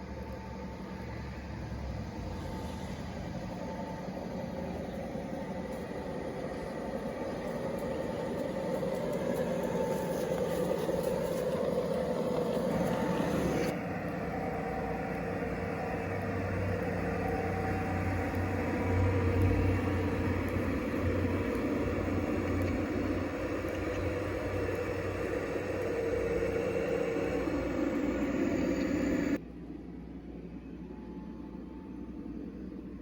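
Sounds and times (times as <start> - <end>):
model train motor humming: 0.0 - 29.4.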